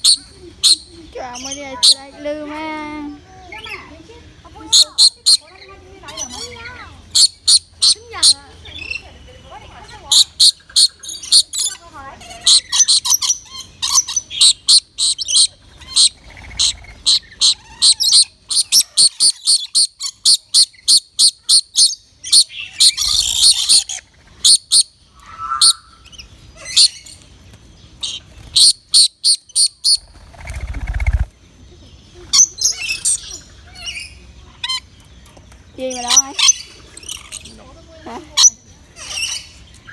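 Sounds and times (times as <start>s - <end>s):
birds chirping: 0.0s - 21.2s, 21.8s - 39.9s.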